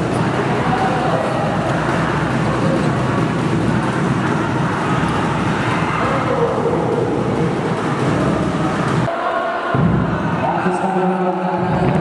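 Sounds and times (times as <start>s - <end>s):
crowd din: 0.0s - 12.0s.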